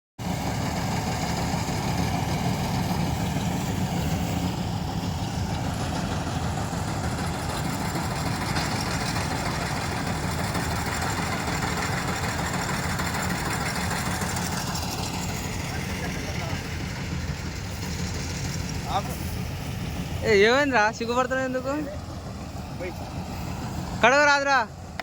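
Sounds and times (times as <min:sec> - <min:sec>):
combine harvester engine running: 0:00.2 - 0:25.0.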